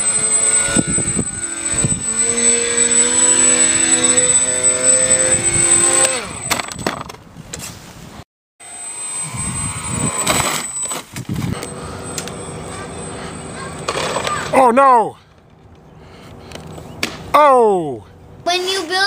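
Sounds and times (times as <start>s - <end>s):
electric motors whining: 0.0s - 7.2s, 8.6s - 17.3s.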